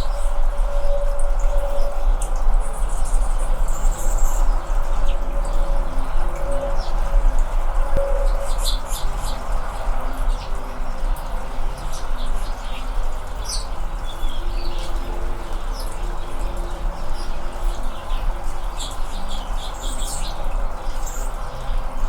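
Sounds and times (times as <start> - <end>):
hummingbird chip calls: 0.0 - 22.0.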